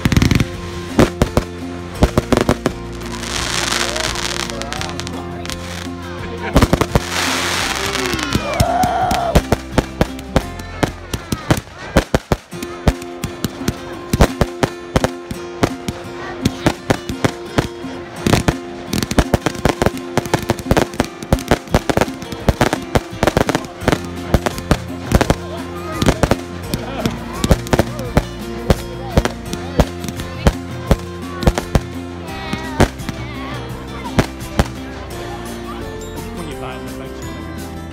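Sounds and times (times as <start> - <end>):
fireworks bangs and crackles: 0.0 - 35.1
music playing: 0.0 - 37.9.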